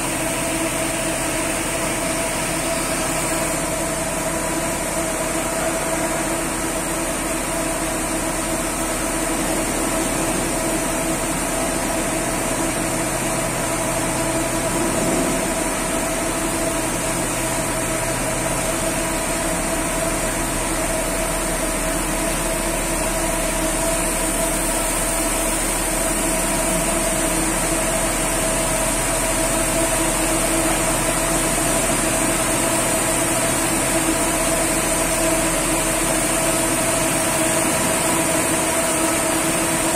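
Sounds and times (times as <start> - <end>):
machinery hum with held tones: 0.0 - 39.9.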